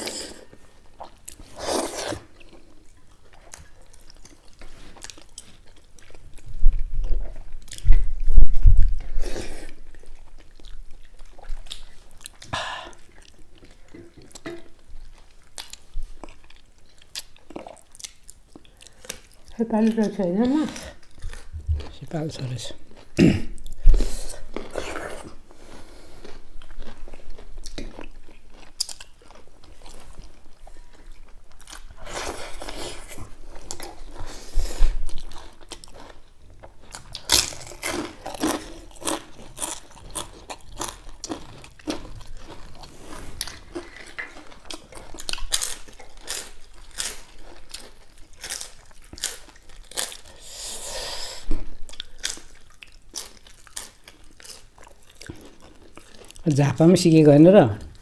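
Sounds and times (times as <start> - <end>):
people chewing and biting: 0.0 - 56.5.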